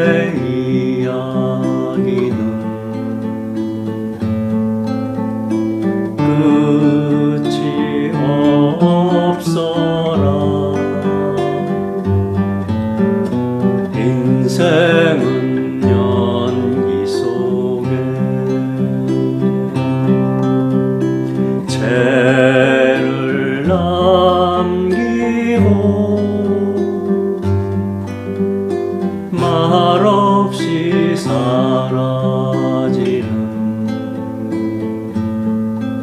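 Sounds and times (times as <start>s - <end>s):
acoustic guitar strumming chords: 0.0s - 36.0s.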